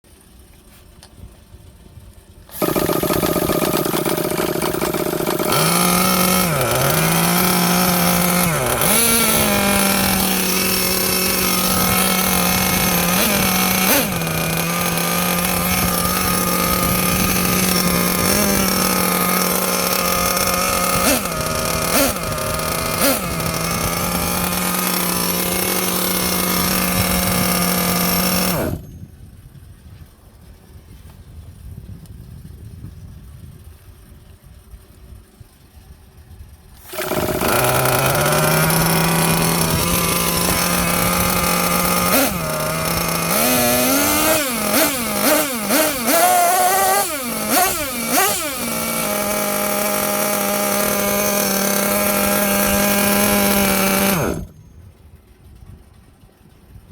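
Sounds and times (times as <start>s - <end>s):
small gas engine idling: 0.0s - 56.9s
engine throttle blips: 0.1s - 29.2s, 35.5s - 56.8s.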